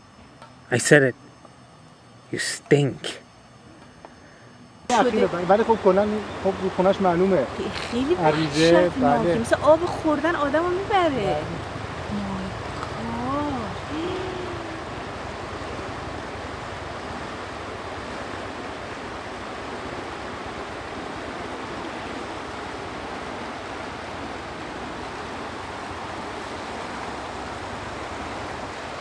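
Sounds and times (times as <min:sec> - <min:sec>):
river water rushing: 0:05.0 - 0:29.0.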